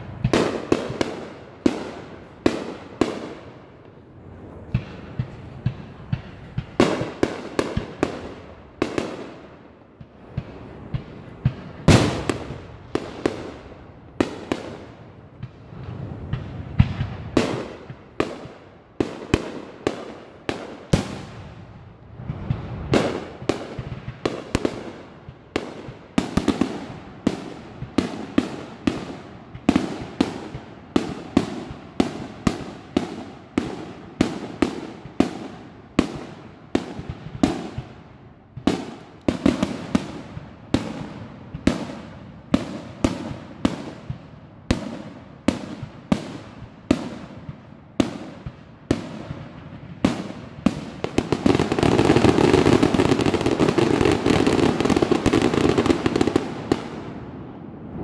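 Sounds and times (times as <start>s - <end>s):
fireworks bursting with echo: 0.0s - 58.0s.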